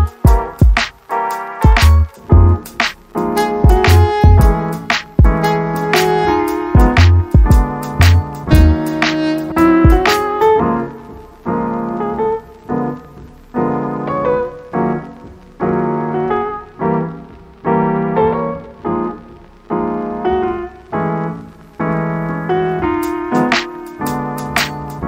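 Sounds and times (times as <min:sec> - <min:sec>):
piano chords: 0:00.0 - 0:25.0.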